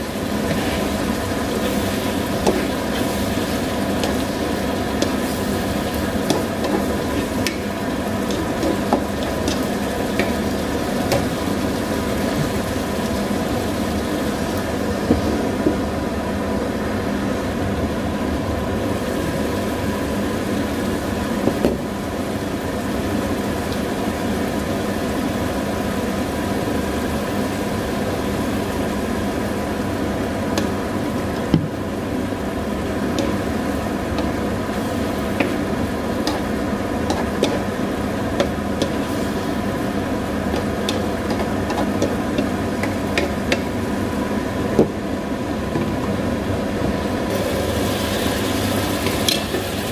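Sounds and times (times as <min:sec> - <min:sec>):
squid sizzling in a frying pan: 0:00.0 - 0:15.6, 0:18.9 - 0:44.5, 0:47.3 - 0:49.9
steady hum: 0:00.0 - 0:49.9.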